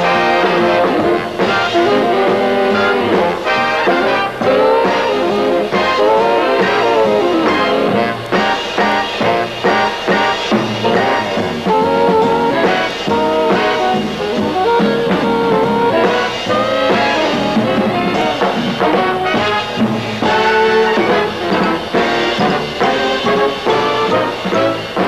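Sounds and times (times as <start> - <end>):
big band jazz: 0.0 - 25.0.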